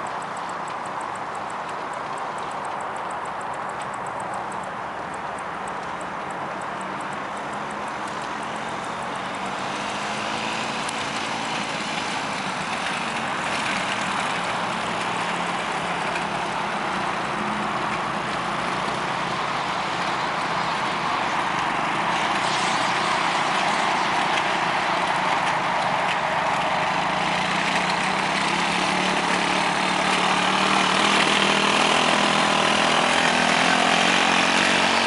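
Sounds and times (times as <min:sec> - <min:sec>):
broad rushing noise: 0:00.0 - 0:35.0
quad bike engine running: 0:00.0 - 0:35.0.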